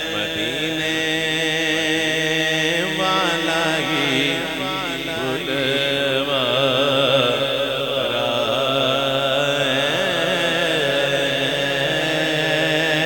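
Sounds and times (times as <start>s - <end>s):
man singing ornamented line: 0.0s - 13.0s.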